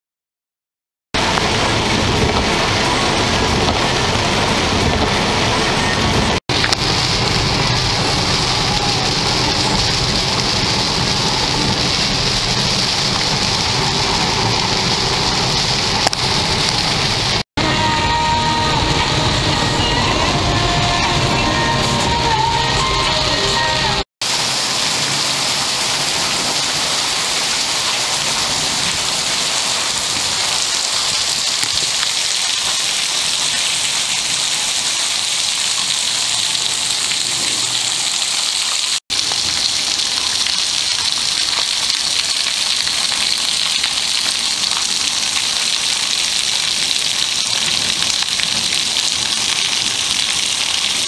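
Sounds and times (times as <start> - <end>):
water streaming off roof edge: 1.2 - 17.4, 24.2 - 51.0
heavy rain on pavement: 1.2 - 51.0.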